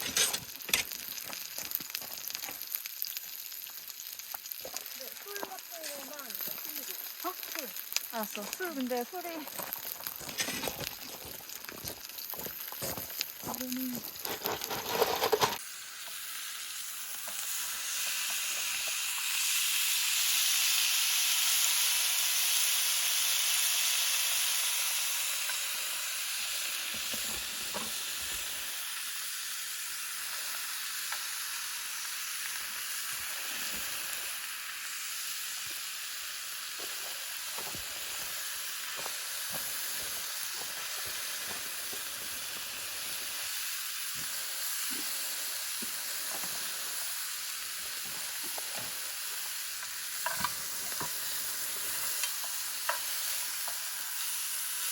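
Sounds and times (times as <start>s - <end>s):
sizzling hiss: 0.0s - 54.9s.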